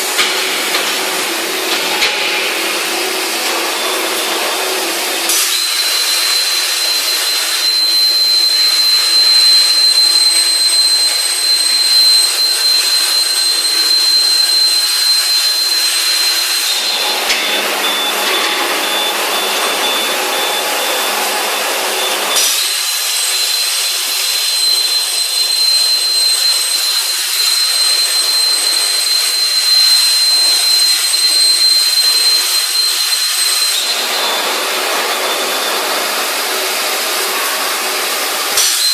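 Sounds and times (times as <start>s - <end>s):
metal-cutting machine whining: 0.0s - 38.9s.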